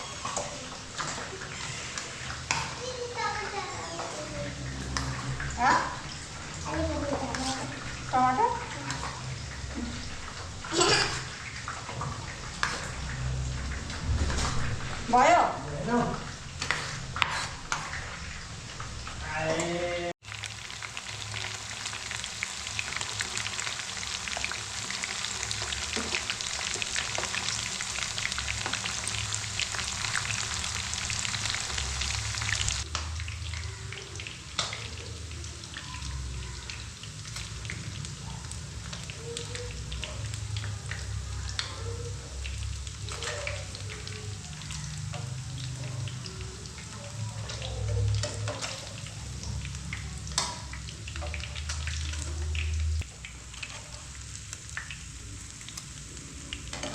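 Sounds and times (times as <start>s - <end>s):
food frying in hot oil: 0.0s - 56.9s.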